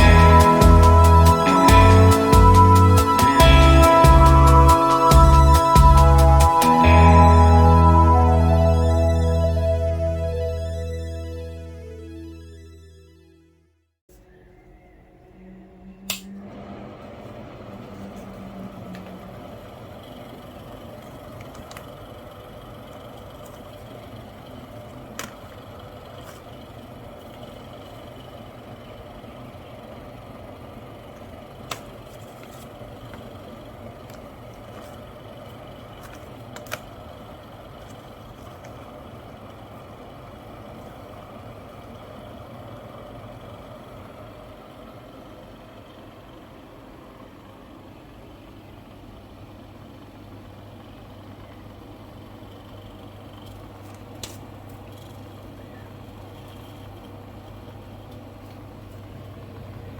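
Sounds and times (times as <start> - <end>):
exhaust fan running: 0.0 - 12.1, 14.5 - 59.9.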